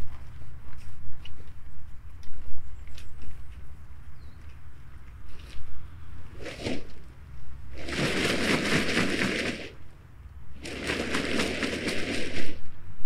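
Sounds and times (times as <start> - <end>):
crackly rustling: 0.0 - 10.0, 10.6 - 12.8.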